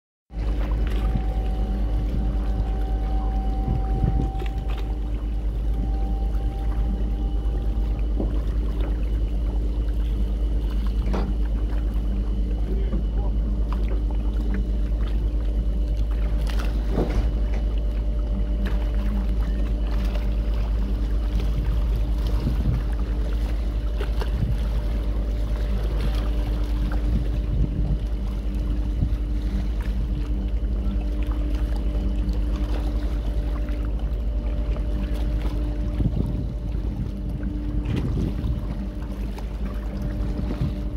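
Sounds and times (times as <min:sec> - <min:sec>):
boat engines low drone: 0:00.3 - 0:40.9
steady hum of even tones: 0:00.3 - 0:40.9.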